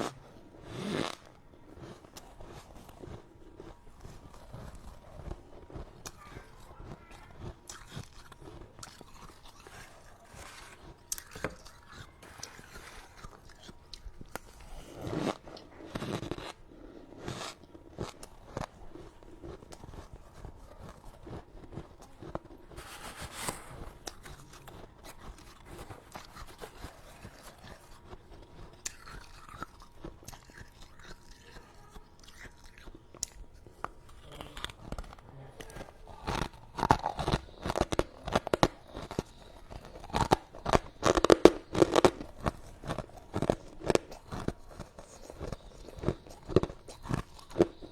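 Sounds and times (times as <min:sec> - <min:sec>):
chewing frost crunches: 0:00.0 - 0:47.9.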